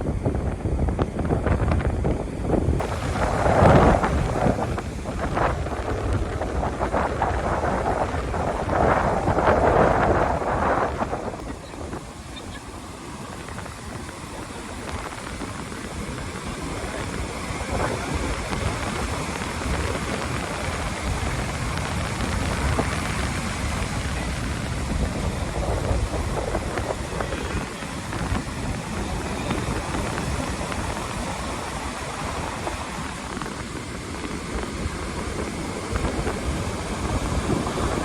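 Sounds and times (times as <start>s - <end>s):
rushing wind: 0.0s - 38.0s
surf: 0.0s - 38.0s
wind buffeting microphone: 0.0s - 38.0s.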